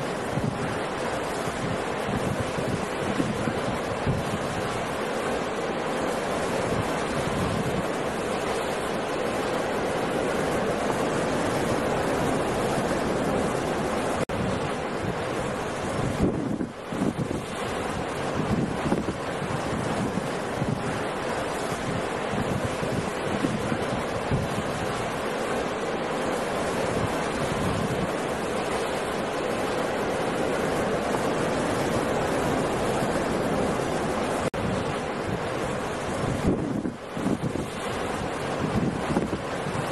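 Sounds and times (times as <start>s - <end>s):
heavy waves breaking: 0.0s - 39.9s
wind: 0.0s - 39.9s.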